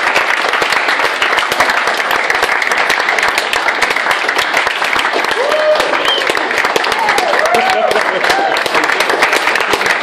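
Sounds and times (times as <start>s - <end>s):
people applauding: 0.0s - 10.0s.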